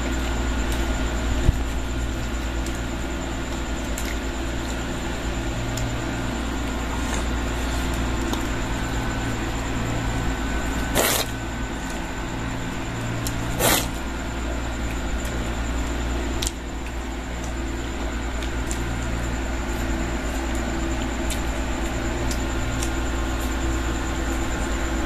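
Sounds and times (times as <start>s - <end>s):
mechanical hum with high whine: 0.0s - 25.0s.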